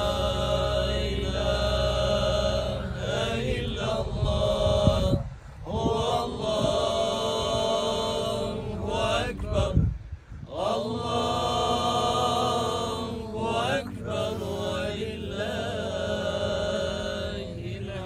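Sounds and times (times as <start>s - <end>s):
man chanting in held notes: 0.0s - 18.0s.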